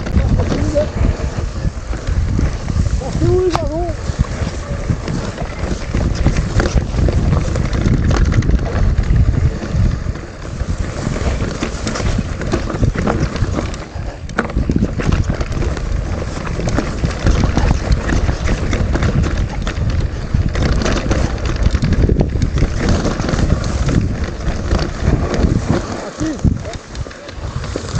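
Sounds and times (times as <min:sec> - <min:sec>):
bike rattling over rough track: 0:00.0 - 0:27.9
wind on microphone: 0:00.0 - 0:27.9.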